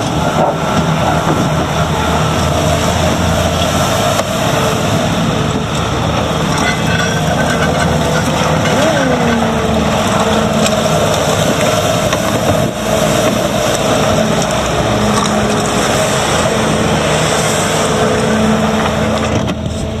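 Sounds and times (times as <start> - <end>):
diesel track loader engine running: 0.0 - 20.0
steady whine: 0.0 - 20.0.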